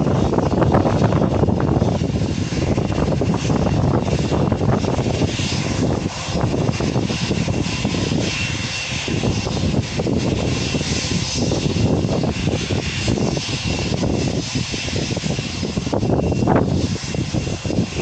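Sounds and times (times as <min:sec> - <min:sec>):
jet engines running: 0:00.0 - 0:18.0.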